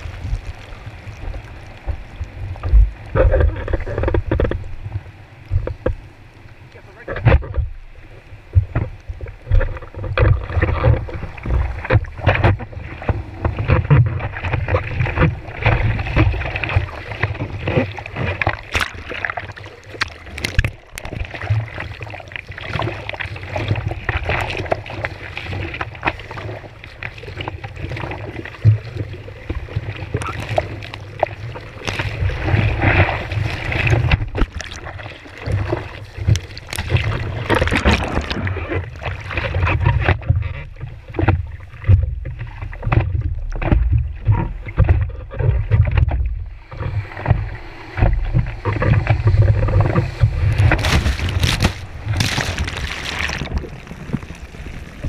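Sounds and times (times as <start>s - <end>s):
water splashing against surfboard: 0.0s - 6.1s, 6.7s - 55.0s.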